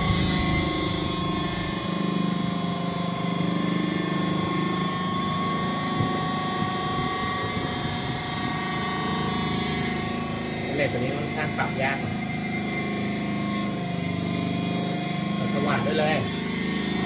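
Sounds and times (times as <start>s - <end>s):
motor whirring with high whine: 0.0s - 17.0s.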